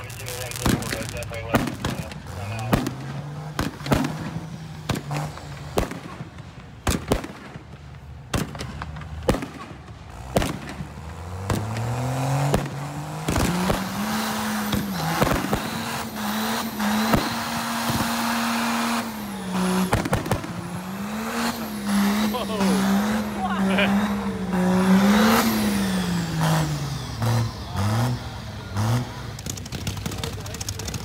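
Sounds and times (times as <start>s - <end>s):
car engine revving: 0.0s - 31.0s
fireworks banging and crackling: 0.0s - 31.0s.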